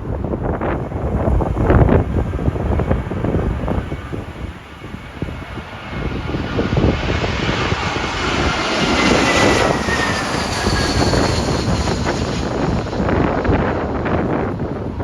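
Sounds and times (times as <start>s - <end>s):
jet airliner engine whine: 0.0s - 15.0s
wind buffeting microphone: 0.0s - 15.0s.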